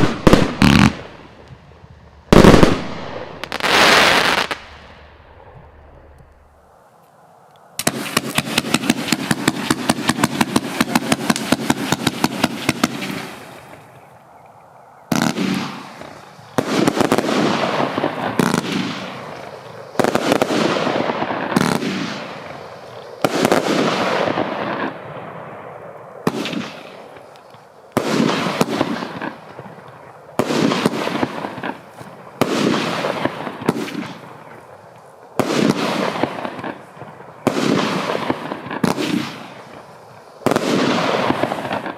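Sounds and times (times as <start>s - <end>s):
firework cake firing: 0.0s - 6.5s, 7.8s - 13.9s, 15.1s - 41.9s
crackle and hiss: 0.0s - 41.9s.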